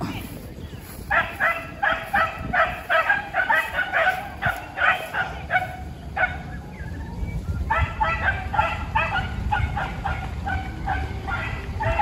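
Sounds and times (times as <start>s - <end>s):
dogs barking: 1.0s - 6.7s, 7.6s - 12.0s.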